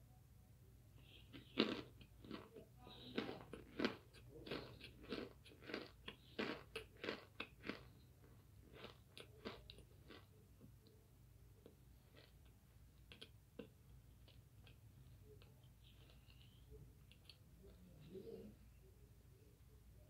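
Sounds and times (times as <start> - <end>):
crunchy chewing: 1.0 - 11.0, 11.6 - 18.0.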